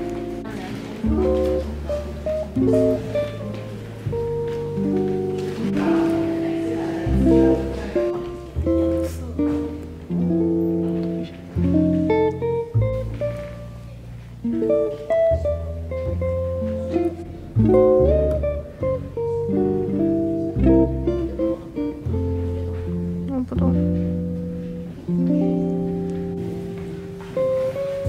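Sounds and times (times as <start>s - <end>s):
low bass notes: 0.0s - 28.0s
plucked acoustic guitar melody: 0.0s - 28.0s.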